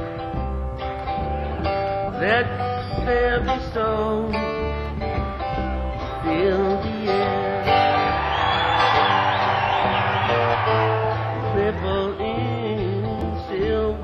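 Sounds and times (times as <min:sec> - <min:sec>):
acoustic guitar playing: 0:00.0 - 0:14.0
bass line: 0:00.0 - 0:14.0.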